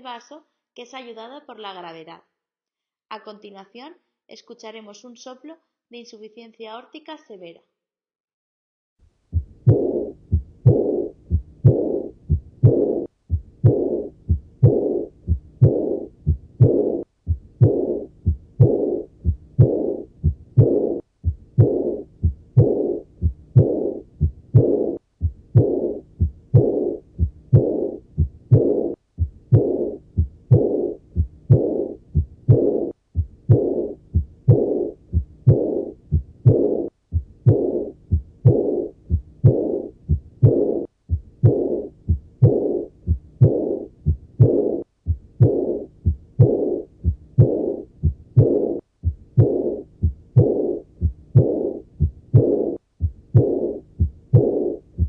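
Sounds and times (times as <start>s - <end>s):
heart murmur: 9.3s - 55.0s
heartbeat: 9.3s - 55.0s.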